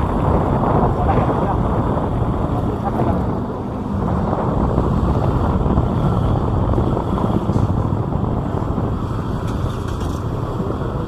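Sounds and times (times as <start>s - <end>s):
motorbike engine: 0.0s - 11.0s
road noise: 0.0s - 11.0s
wind buffeting microphone: 0.0s - 11.0s.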